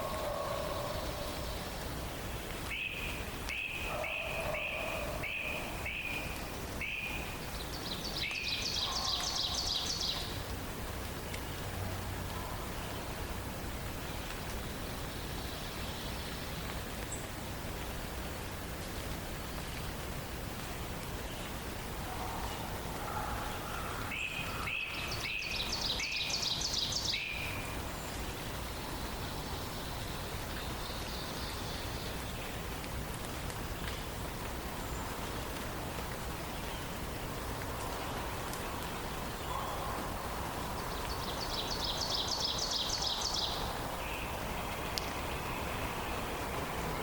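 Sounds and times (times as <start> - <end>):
songbird singing: 0.0 - 18.2, 21.0 - 32.9, 33.6 - 47.0
forest ambience hiss: 0.0 - 47.0.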